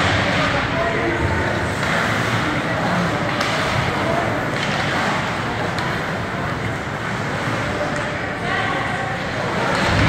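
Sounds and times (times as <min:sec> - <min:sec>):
skates scraping on ice: 0:00.0 - 0:08.5
spectators chatting: 0:00.0 - 0:10.0.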